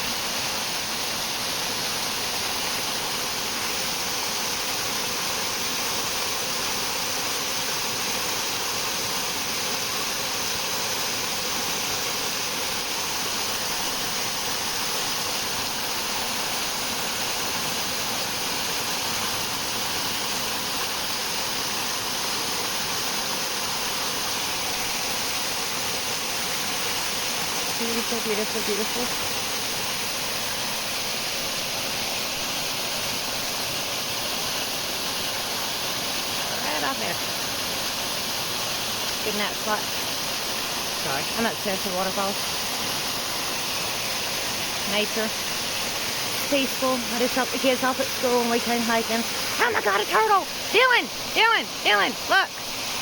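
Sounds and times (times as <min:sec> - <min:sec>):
waterfall rushing onto rock: 0:00.0 - 0:53.0.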